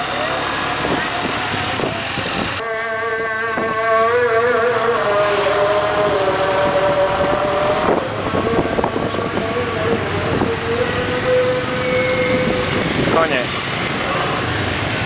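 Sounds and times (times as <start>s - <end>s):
motorbike engine humming: 0.0s - 15.0s
wind noise on microphone: 0.6s - 15.0s.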